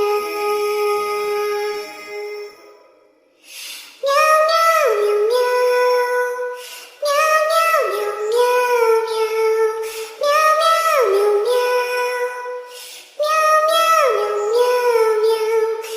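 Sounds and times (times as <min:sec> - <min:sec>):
high childlike singing voice: 0:00.0 - 0:02.6, 0:03.9 - 0:15.9.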